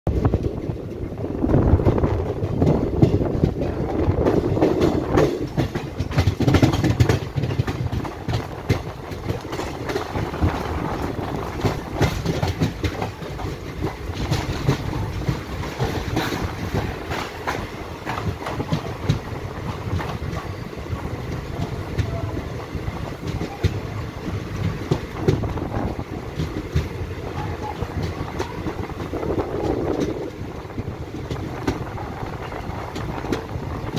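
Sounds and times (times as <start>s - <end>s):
train wheels rumbling on rail: 0.1s - 33.9s
wheels clicking over rail joints: 0.1s - 33.9s.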